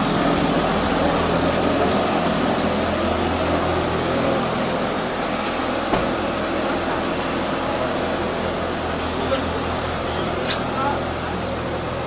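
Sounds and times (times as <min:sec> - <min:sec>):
city street noise: 0:00.0 - 0:12.0
vehicle engine humming: 0:00.0 - 0:12.0.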